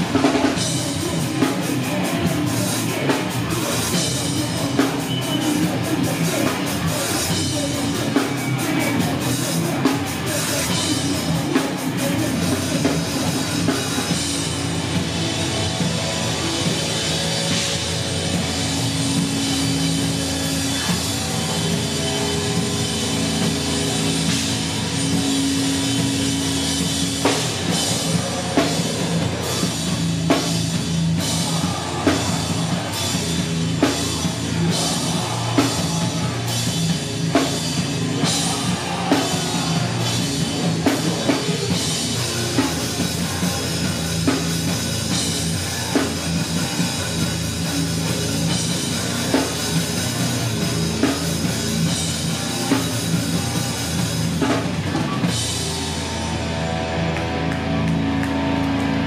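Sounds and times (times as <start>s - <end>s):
heavy rock band playing loudly: 0.0s - 59.0s.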